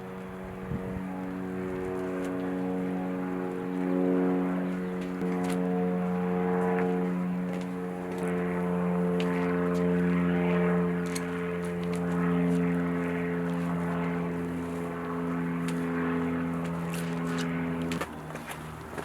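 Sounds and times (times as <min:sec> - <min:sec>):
motor humming steadily: 0:00.0 - 0:19.0.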